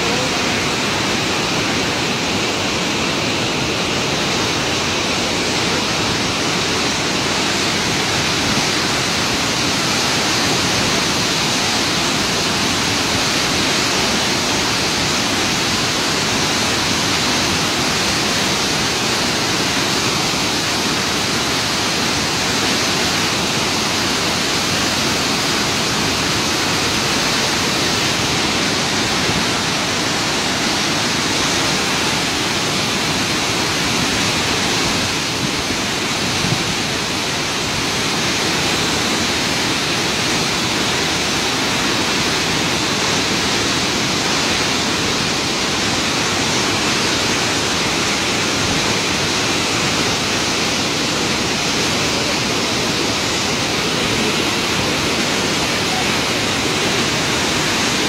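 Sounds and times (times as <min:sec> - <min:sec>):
floodwater rushing in river: 0:00.0 - 0:58.0.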